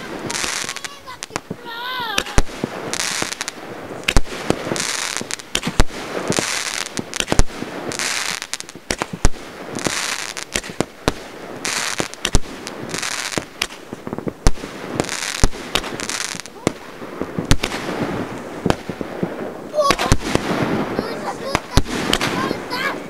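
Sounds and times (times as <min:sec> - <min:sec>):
fireworks bangs: 0:00.0 - 0:23.0
fireworks hissing and crackling: 0:00.0 - 0:23.0.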